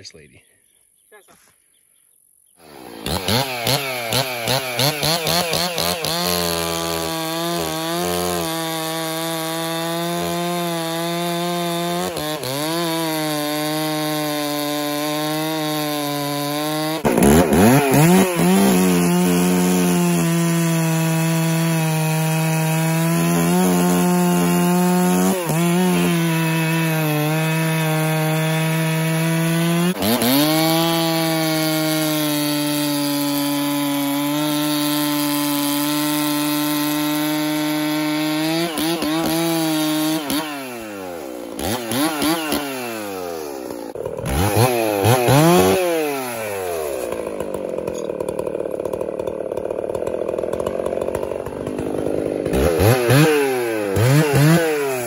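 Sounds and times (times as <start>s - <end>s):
chainsaw revving and cutting log: 2.6s - 55.0s.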